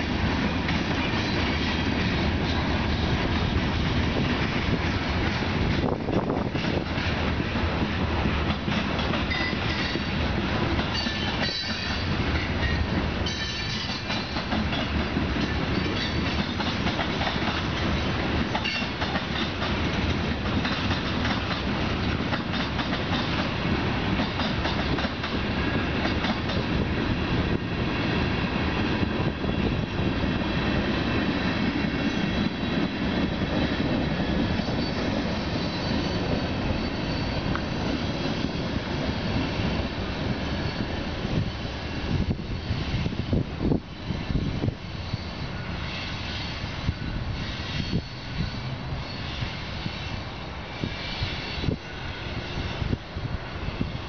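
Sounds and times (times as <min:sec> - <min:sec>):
rail clicks: 0:00.0 - 0:46.7
train wheels on rails: 0:00.0 - 0:54.0.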